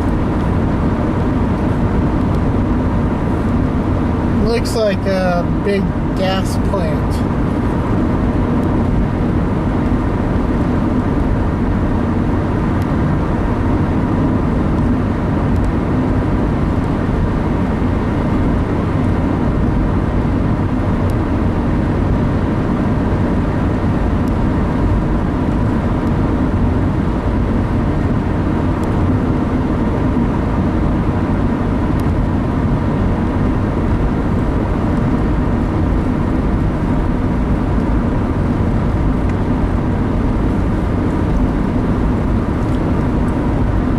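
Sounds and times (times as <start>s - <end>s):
car interior engine and tyre drone: 0.0s - 43.9s.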